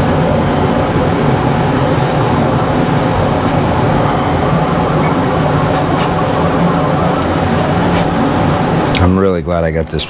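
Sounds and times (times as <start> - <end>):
three-d printer whirring: 0.0 - 9.0.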